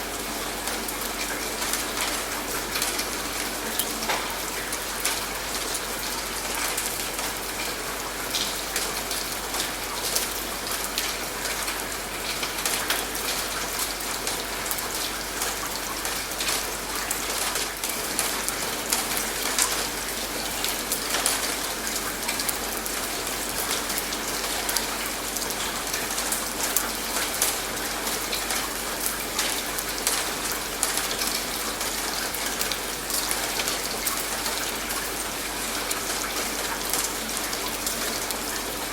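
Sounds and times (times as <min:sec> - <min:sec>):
steady rain hiss: 0:00.0 - 0:38.9
raindrop ticks: 0:00.1 - 0:38.9.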